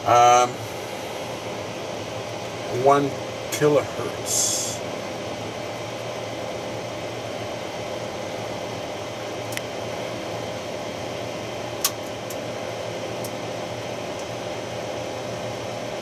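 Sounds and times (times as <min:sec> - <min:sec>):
cooling fans humming: 0:00.0 - 0:16.0.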